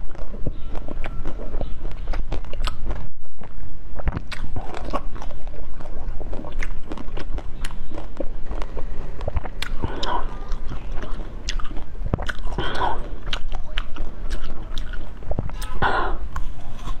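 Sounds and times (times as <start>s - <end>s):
chewing with mouth clicks: 0.0s - 17.0s.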